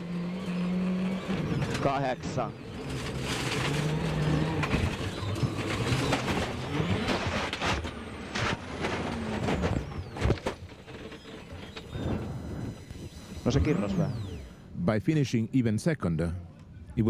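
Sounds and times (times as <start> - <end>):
rally car engine revving: 0.0 - 14.8
road noise: 0.0 - 17.0.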